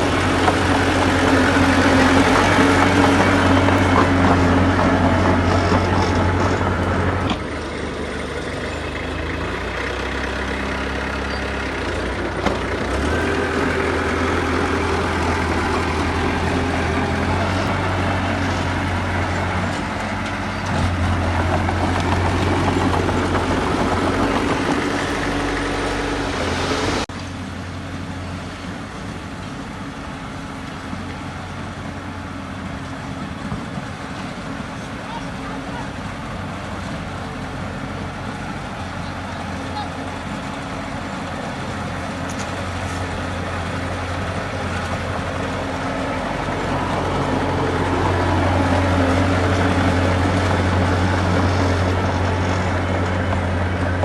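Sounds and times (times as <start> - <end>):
diesel construction machinery running: 0.0 - 54.0.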